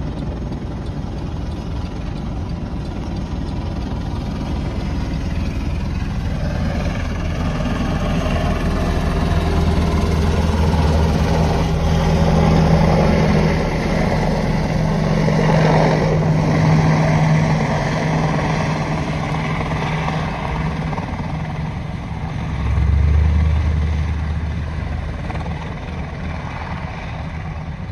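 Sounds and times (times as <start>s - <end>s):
helicopter hovering: 0.0s - 27.9s.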